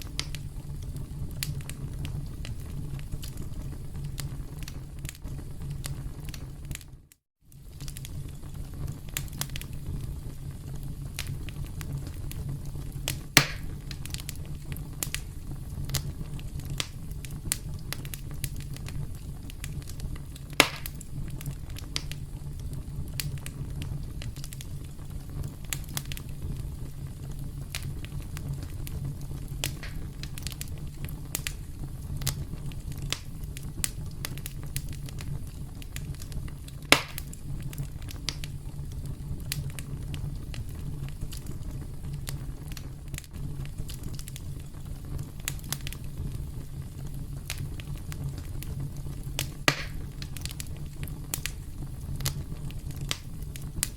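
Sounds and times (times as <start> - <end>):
campfire crackling: 0.0 - 53.9
loud fire pops: 0.0 - 53.9.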